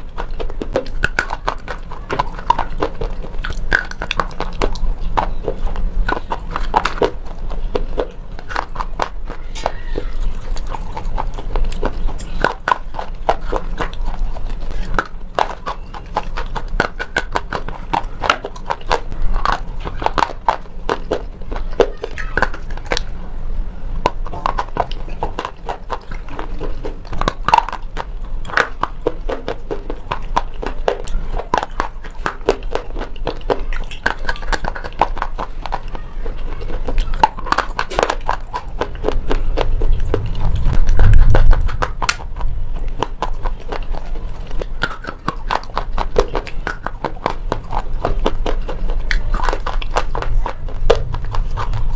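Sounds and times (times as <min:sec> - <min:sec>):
pencil being chewed crunching: 0:00.0 - 0:23.2, 0:24.0 - 0:51.9
mouth sounds: 0:00.0 - 0:51.9.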